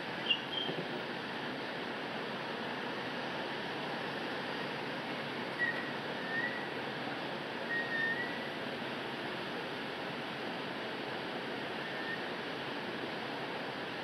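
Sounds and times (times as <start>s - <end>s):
traffic hiss: 0.0s - 14.0s.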